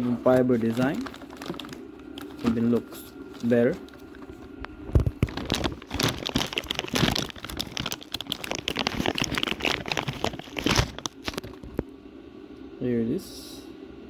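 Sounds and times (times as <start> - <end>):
packaging crinkling: 0.0 - 11.9.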